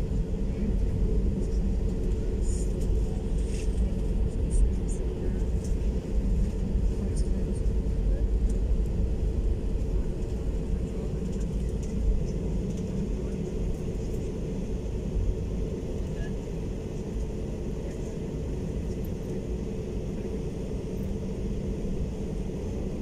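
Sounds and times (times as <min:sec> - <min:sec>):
aircraft cabin low rumble: 0:00.0 - 0:23.0
steady engine hum: 0:00.0 - 0:23.0.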